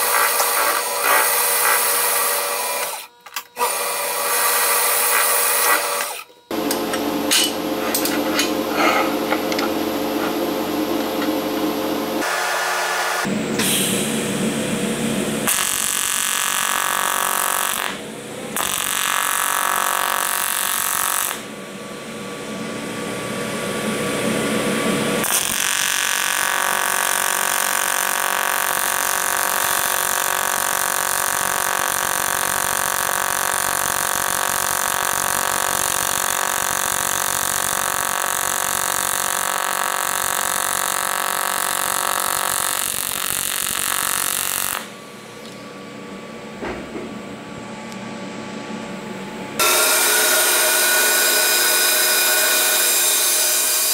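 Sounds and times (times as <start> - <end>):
welding arc buzzing: 0.0 - 21.6, 23.8 - 45.6, 49.6 - 53.9.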